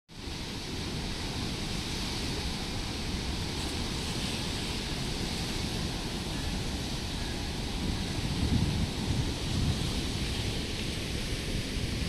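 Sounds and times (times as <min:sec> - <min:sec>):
water rushing and churning: 0:00.1 - 0:12.0.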